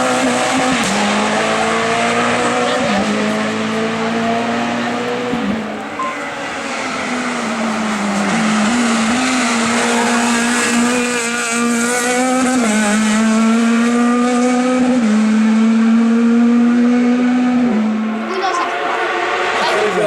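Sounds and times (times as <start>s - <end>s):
race car engine at high revs: 0.0s - 20.0s.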